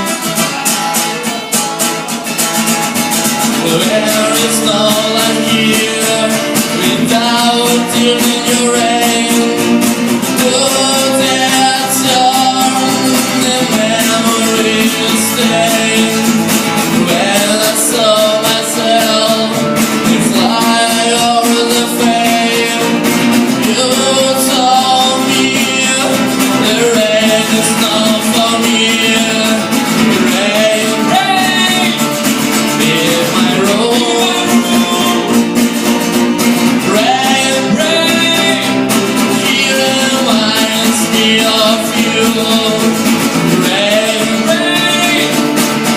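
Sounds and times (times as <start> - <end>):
acoustic guitar: 0.0 - 45.9
person singing: 0.0 - 45.9.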